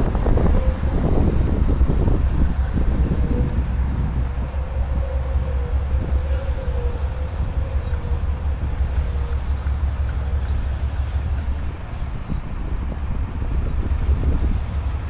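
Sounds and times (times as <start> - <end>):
locomotive low rumble: 0.0 - 15.0.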